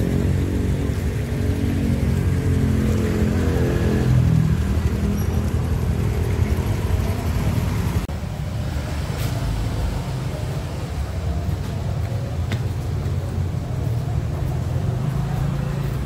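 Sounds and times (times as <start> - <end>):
motorcycle engines running: 0.0 - 8.9, 9.6 - 16.0
street traffic: 0.0 - 16.0.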